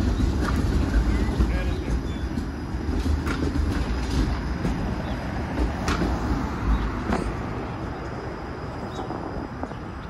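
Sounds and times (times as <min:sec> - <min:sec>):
passing car traffic: 0:00.0 - 0:10.0
streetcar rumbling along street: 0:00.0 - 0:10.0.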